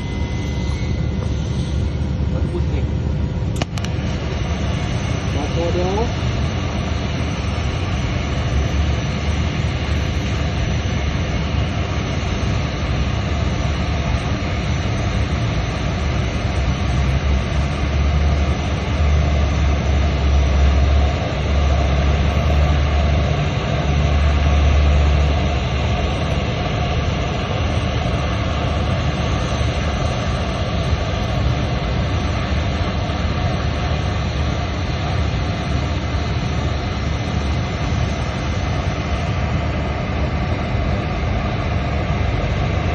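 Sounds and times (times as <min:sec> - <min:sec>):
machine drone with hiss: 0:00.0 - 0:42.9.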